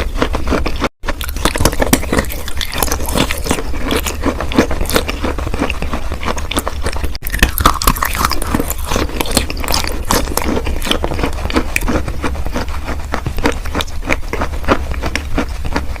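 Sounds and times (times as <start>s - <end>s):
chewing crunches: 0.0s - 16.0s.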